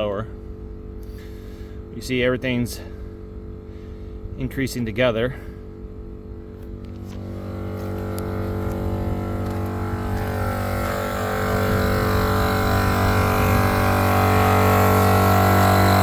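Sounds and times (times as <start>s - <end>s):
air compressor humming: 0.0s - 16.0s.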